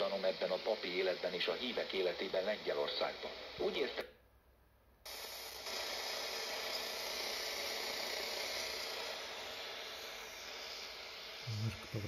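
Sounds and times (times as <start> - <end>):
radio static hiss: 0.0 - 4.2, 5.1 - 12.0.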